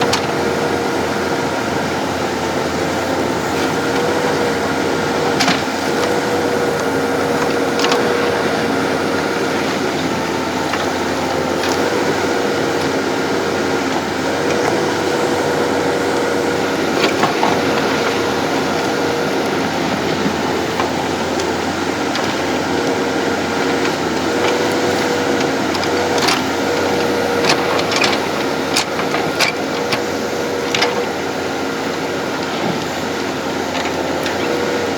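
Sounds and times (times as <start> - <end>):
backhoe loader engine running: 0.0 - 34.9.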